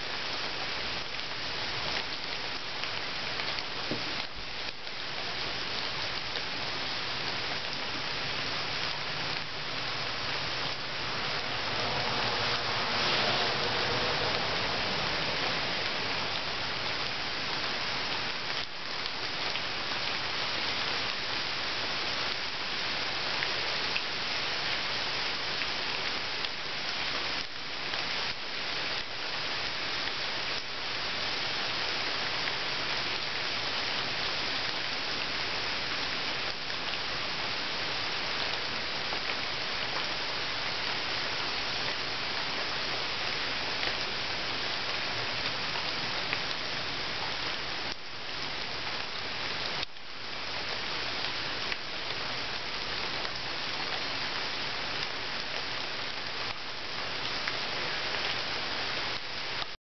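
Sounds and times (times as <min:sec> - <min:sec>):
rain falling into a puddle: 0:00.0 - 0:59.8.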